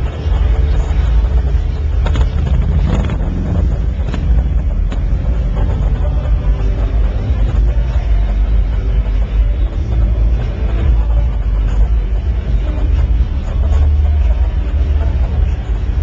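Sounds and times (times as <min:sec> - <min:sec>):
crowded hall rumble: 0:00.0 - 0:16.0.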